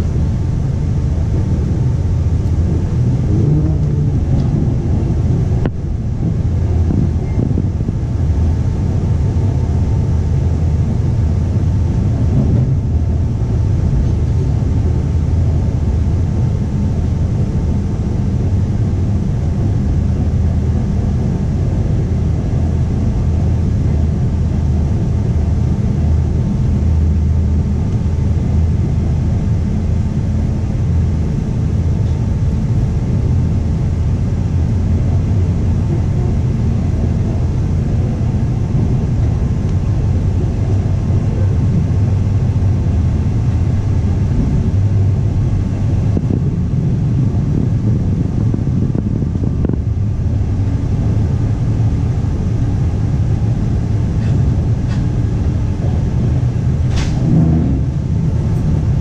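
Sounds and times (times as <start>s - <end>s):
train coach rumbling: 0.0s - 59.0s.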